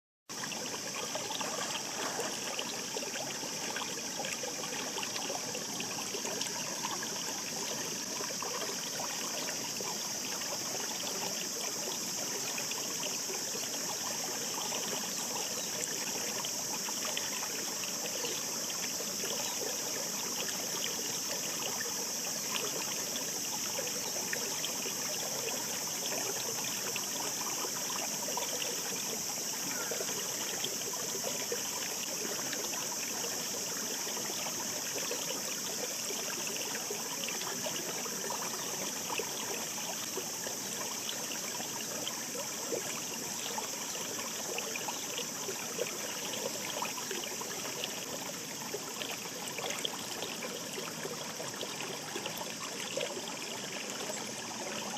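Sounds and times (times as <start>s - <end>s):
stream babbling over stones: 0.3s - 54.9s.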